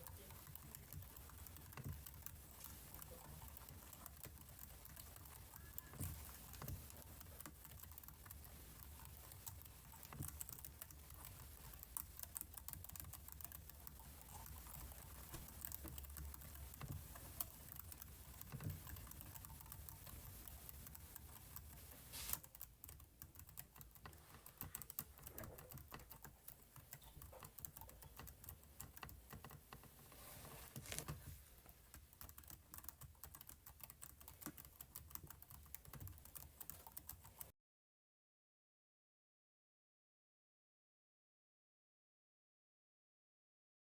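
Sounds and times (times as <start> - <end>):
keyboard typing: 0.0 - 37.5.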